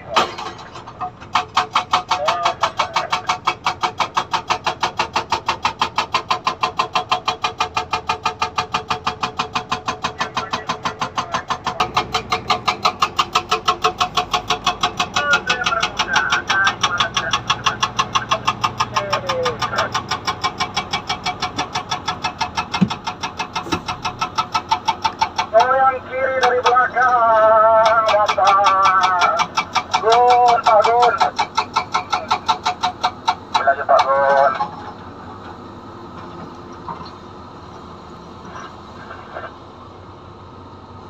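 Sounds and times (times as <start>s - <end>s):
hydraulic breaker hammering stone: 0.0s - 34.9s.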